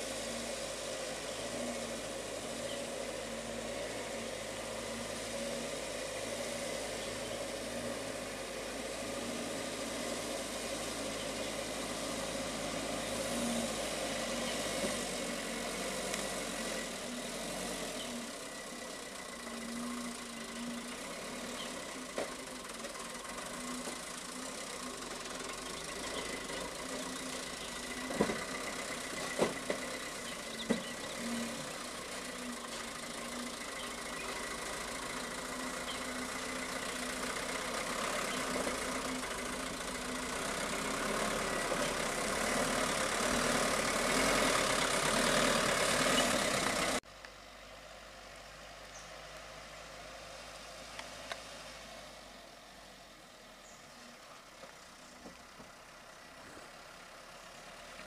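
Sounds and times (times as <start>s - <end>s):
truck engine running slowly: 0.0s - 58.0s.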